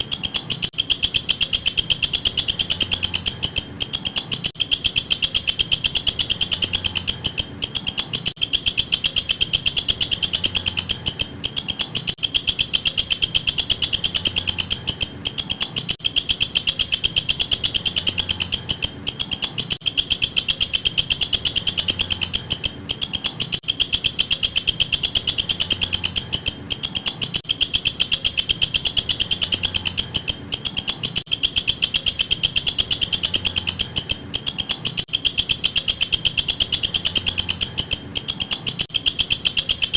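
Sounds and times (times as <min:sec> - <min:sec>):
katydid shrill ticking trill: 0:00.0 - 0:39.9.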